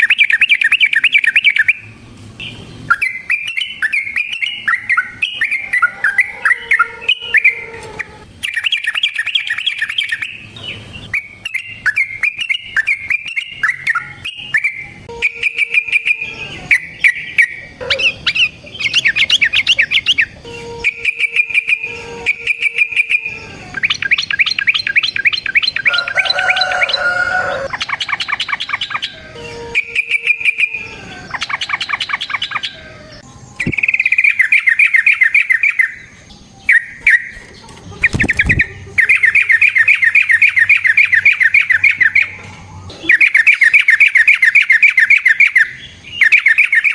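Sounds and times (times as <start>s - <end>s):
bird singing loudly: 0.0s - 37.4s, 38.0s - 46.9s.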